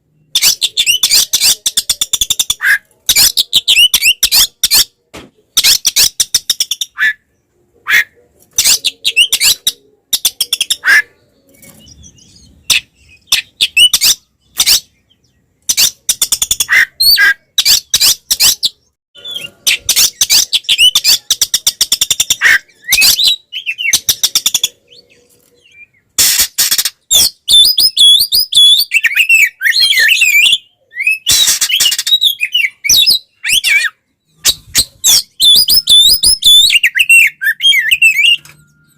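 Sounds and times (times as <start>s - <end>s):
bird singing harsh chattering song: 0.0s - 38.9s.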